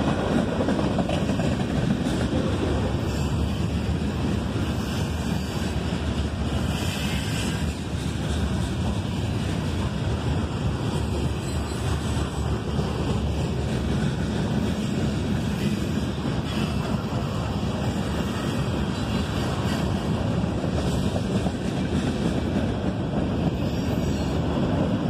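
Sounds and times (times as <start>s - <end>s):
freight train cars rolling past: 0.0s - 25.0s.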